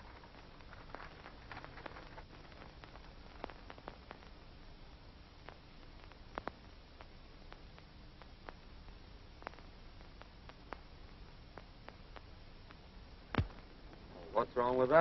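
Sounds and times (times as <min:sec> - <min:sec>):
crackles and pops: 0:00.0 - 0:15.0
film soundtrack hiss: 0:00.0 - 0:15.0.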